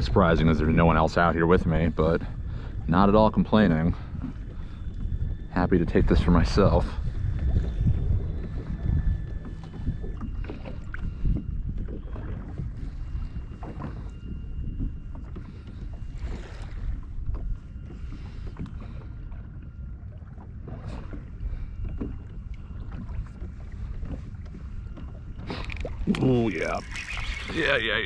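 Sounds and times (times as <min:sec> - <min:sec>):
water against hull: 0:00.0 - 0:28.0
wind buffeting microphone: 0:00.0 - 0:28.0.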